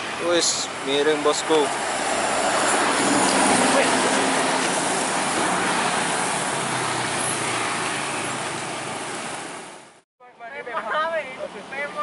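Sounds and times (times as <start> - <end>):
bus engine and tyre noise: 0.0 - 10.0.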